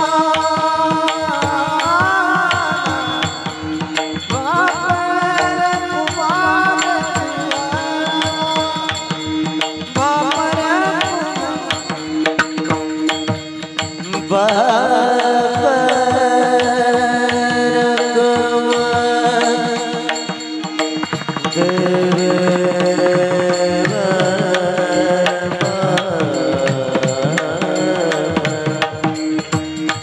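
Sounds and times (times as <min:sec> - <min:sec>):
man singing: 0:00.0 - 0:20.4, 0:21.5 - 0:30.0.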